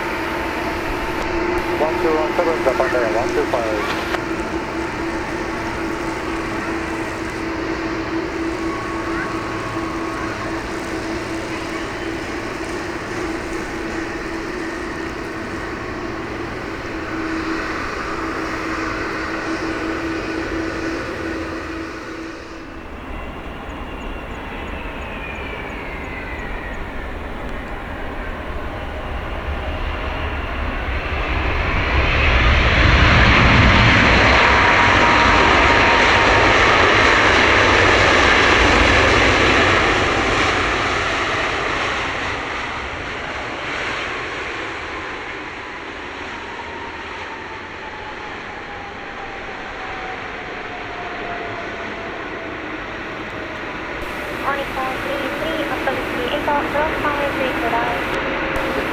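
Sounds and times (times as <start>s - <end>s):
jet engine whine falling in pitch: 0.0s - 41.5s, 46.5s - 58.9s
steady airliner engine hum: 0.0s - 43.7s, 47.7s - 58.9s
loud jet engine roar: 0.0s - 45.8s, 47.4s - 58.9s.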